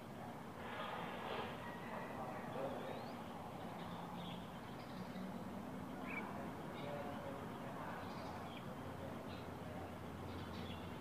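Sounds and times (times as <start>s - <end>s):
faint bird chirps: 1.5s - 11.0s.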